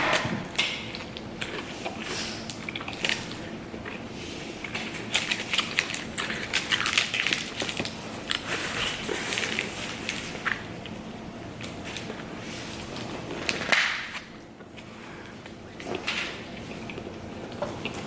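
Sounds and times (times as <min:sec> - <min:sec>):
chewing with crunches: 0:00.0 - 0:18.0.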